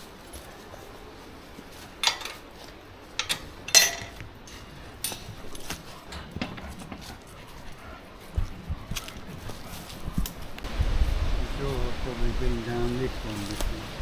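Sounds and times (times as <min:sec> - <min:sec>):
footsteps on woodland path: 0:00.0 - 0:14.0.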